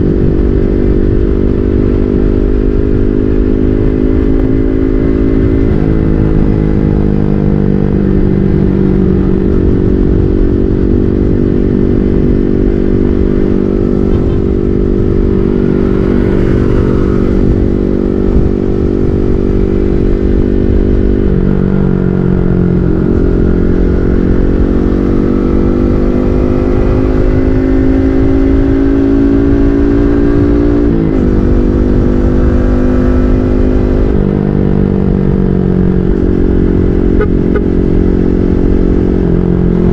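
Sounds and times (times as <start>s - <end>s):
low wind rumble: 0.0s - 39.9s
motorcycle engine: 0.0s - 39.9s.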